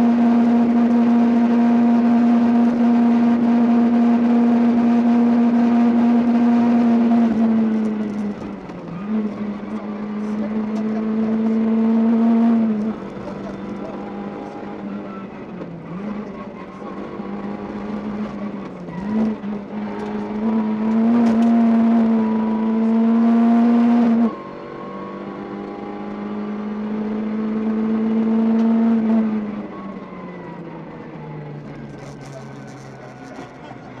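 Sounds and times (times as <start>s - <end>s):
car engine under full throttle: 0.0s - 34.0s.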